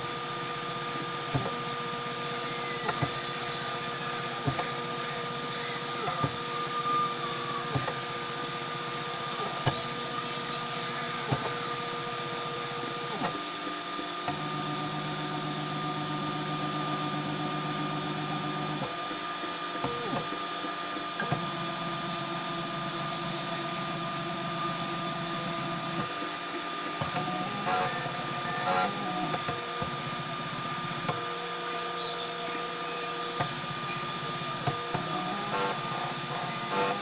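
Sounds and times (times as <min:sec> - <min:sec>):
constant high tone: 0:00.0 - 0:37.0
stepper motors whining: 0:00.0 - 0:37.0.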